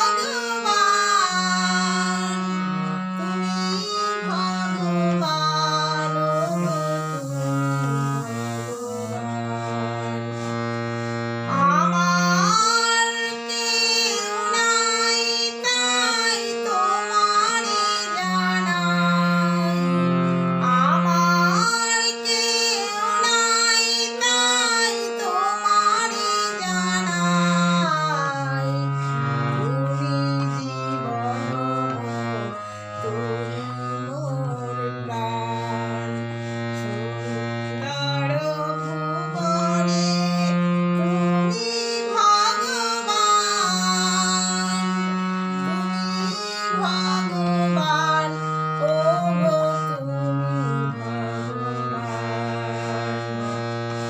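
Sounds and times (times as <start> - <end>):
woman singing: 0.0 - 7.4, 11.5 - 36.2, 36.9 - 52.5
harmonium chords: 0.0 - 54.0.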